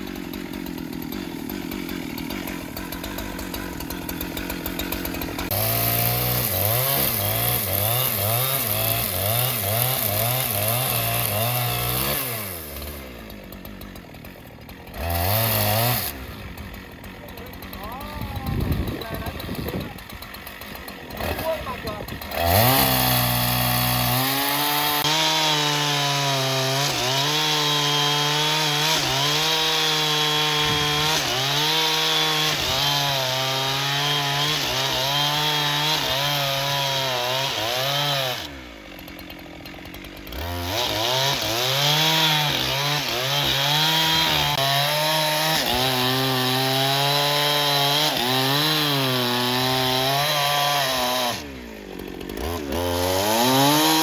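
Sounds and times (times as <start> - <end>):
engine-driven saw cutting wood: 0.0 - 54.0.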